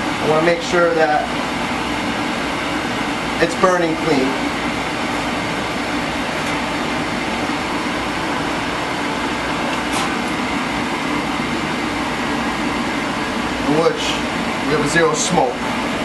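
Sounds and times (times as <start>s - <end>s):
oil burner rumbling: 0.0s - 16.0s.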